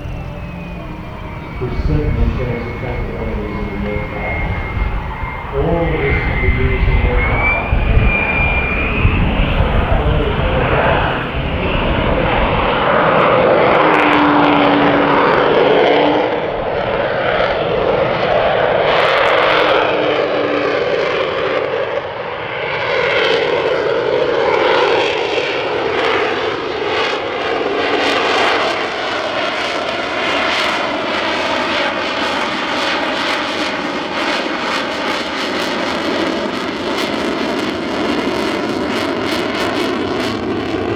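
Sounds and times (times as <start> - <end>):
jet fighter engine roar: 0.0 - 40.9.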